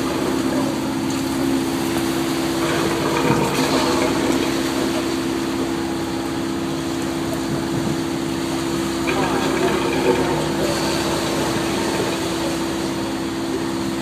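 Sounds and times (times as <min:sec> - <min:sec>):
boat engine humming: 0:00.0 - 0:14.0
water rushing in wake: 0:00.0 - 0:14.0.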